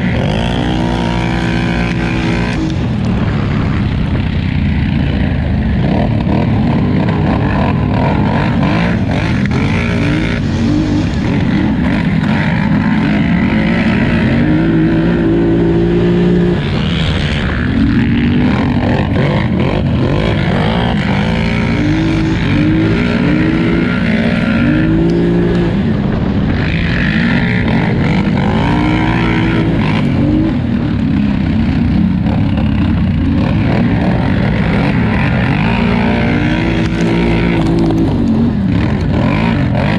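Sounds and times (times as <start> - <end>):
constant rushing noise: 0.0 - 39.9
engine revving at race pace: 0.0 - 39.9.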